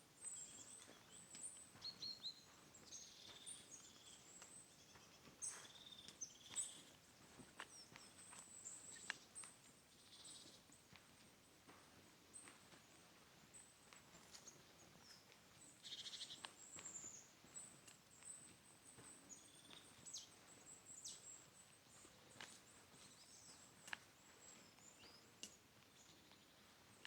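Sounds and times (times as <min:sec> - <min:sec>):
small birds chirping: 0:00.1 - 0:11.3, 0:12.3 - 0:27.0.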